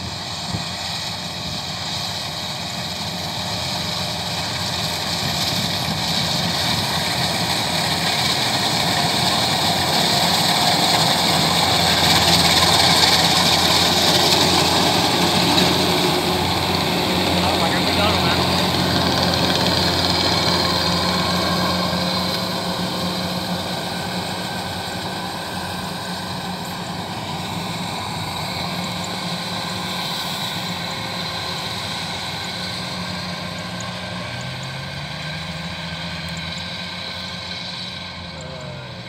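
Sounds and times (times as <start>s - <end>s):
combine harvester droning: 0.0s - 39.0s.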